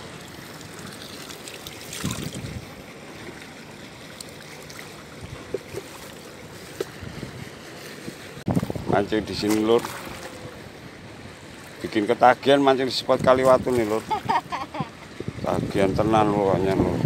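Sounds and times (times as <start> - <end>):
water lapping against seawall: 0.0 - 17.0.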